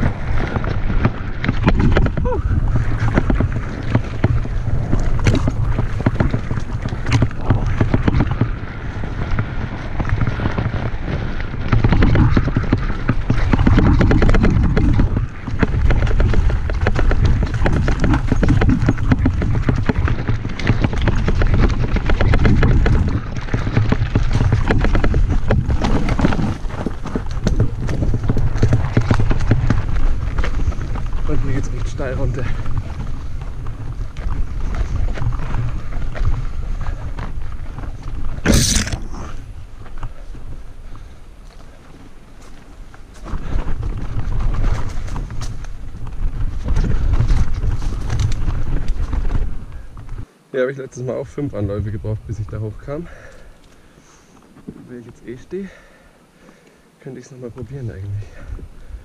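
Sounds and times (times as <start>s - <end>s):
bike clattering over stones: 0.0s - 50.3s
wind buffeting camera: 0.0s - 50.3s, 51.1s - 55.9s, 56.8s - 59.0s.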